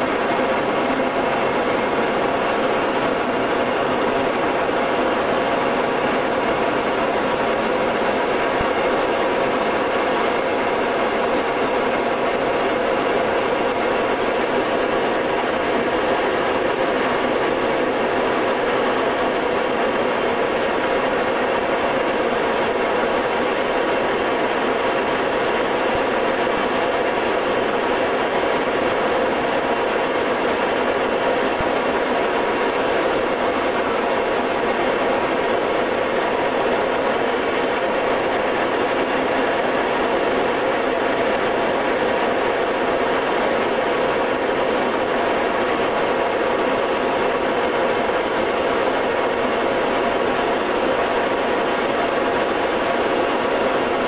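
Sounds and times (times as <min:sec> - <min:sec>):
turboprop engine drone: 0:00.0 - 0:54.0.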